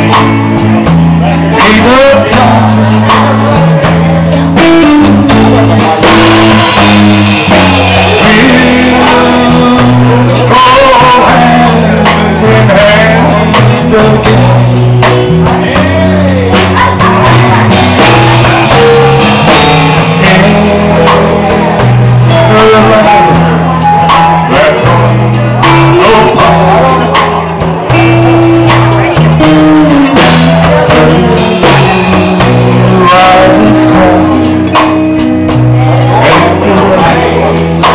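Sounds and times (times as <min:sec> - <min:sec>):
country band playing slow ballad: 0:00.0 - 0:37.9
sliding electric guitar lead: 0:00.0 - 0:37.9.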